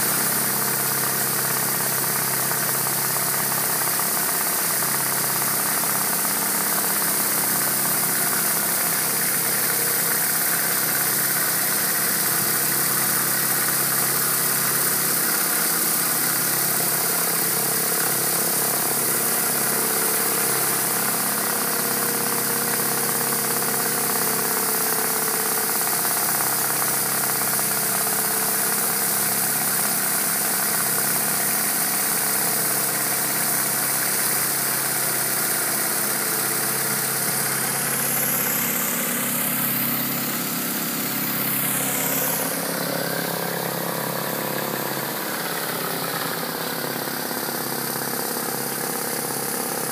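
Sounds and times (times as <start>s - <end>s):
high-pressure water hissing: 0.0s - 49.9s
pressure washer engine hum: 0.0s - 49.9s.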